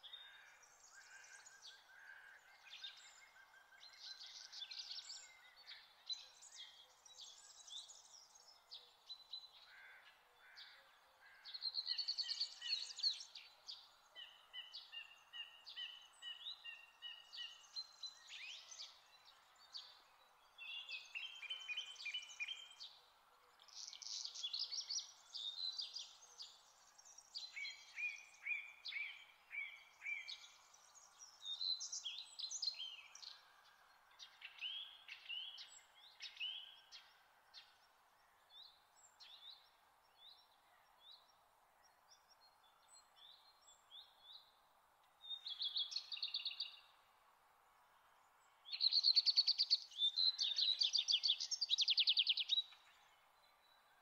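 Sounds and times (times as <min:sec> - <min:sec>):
faint background hiss: 0:00.0 - 0:54.0
songbirds singing: 0:00.0 - 0:54.0.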